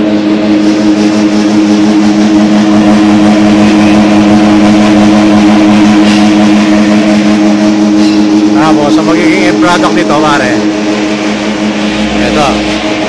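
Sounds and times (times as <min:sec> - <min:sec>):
motor humming loudly: 0:00.0 - 0:13.0.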